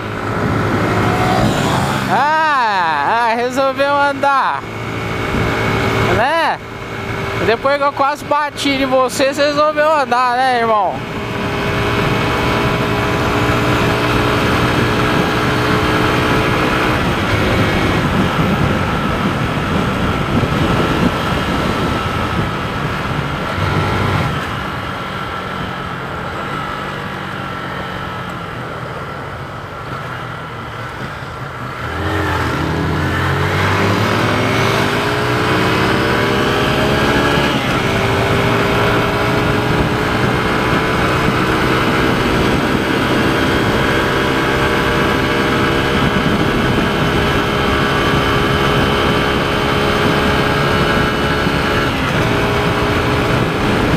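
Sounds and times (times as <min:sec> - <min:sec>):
wind rush: 0:00.0 - 0:24.9, 0:30.9 - 0:53.9
motorcycle engine: 0:00.0 - 0:53.9.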